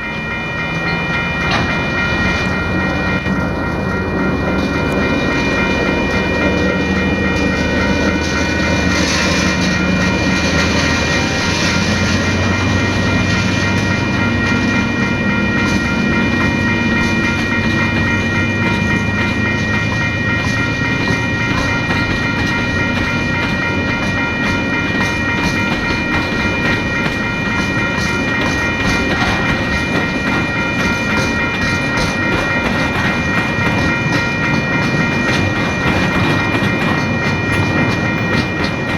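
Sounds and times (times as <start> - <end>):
diesel locomotive engine hum: 0.0 - 38.9
steady high whine: 0.0 - 38.9
train wheels clickety-clack: 0.0 - 38.9.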